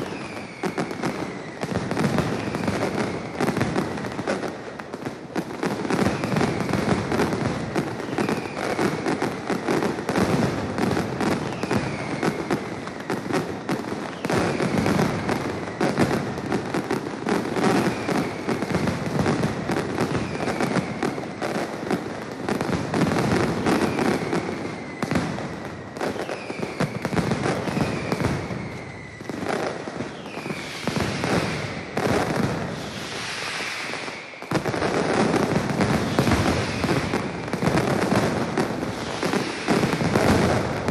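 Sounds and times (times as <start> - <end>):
falling whistles: 0.0 - 4.2, 6.0 - 7.1, 8.0 - 10.1, 11.3 - 16.1, 17.6 - 21.8, 23.6 - 40.9
firecrackers cracking and banging: 0.0 - 40.9.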